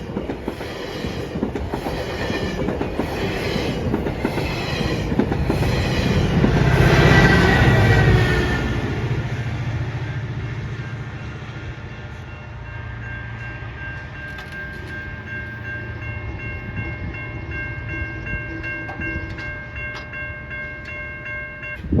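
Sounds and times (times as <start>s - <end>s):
train rumble and wheel noise: 0.0s - 22.0s
crossing warning bell ringing: 1.2s - 22.0s.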